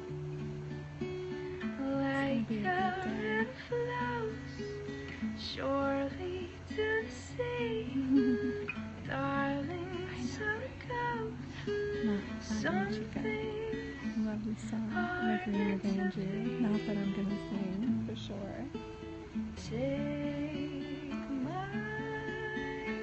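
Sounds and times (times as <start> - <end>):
acoustic guitar: 0.0 - 23.0
woman singing: 1.6 - 18.7, 19.6 - 23.0.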